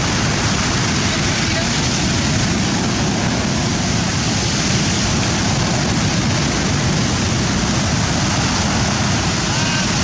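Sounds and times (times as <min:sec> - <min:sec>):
rough sea surf: 0:00.0 - 0:10.0
wind: 0:00.0 - 0:10.0.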